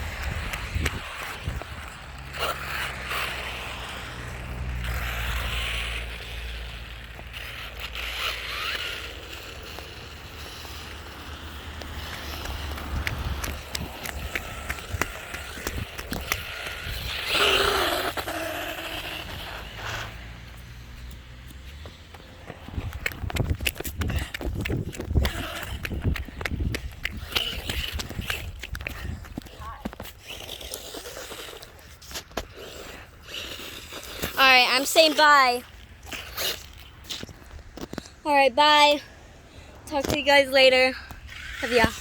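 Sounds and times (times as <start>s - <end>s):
toy car wheels rolling and scraping: 0.0s - 39.0s, 39.8s - 42.0s.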